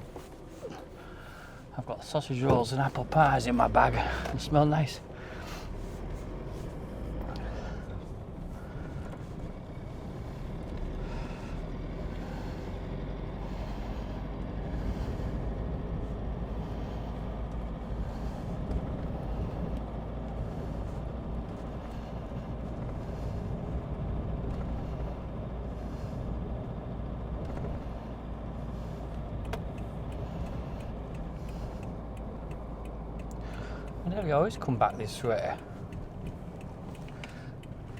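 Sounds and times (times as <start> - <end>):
truck engine and road rumble: 0.0 - 37.9.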